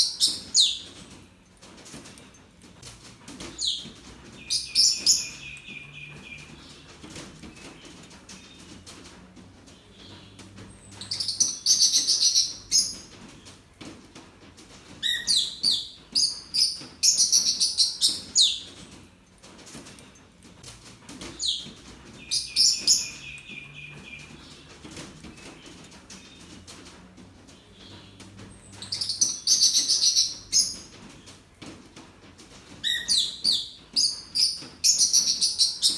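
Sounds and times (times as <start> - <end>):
small birds chirping: 0.0 - 2.4, 3.0 - 35.9.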